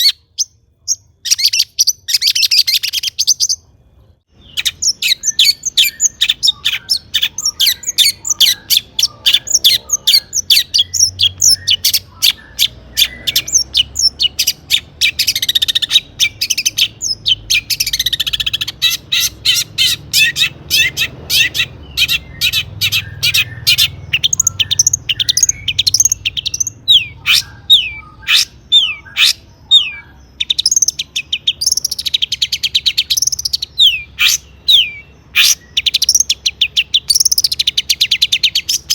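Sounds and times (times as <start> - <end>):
bird chattering and trilling song: 0.0 - 38.9.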